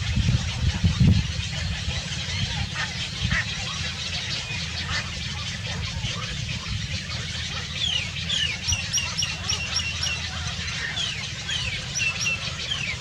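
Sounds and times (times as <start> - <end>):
steady low rumble: 0.0 - 13.0
small birds chirping: 0.1 - 13.0.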